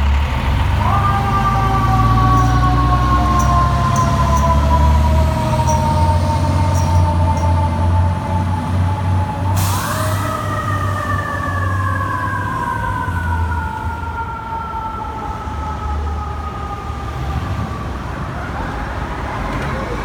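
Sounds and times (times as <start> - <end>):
fire engine rumbling: 0.0 - 20.0
fire engine siren: 0.0 - 20.0.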